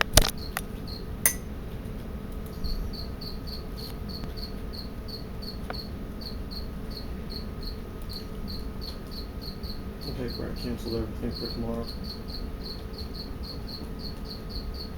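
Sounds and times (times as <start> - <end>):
cricket chirping: 2.5 - 14.9.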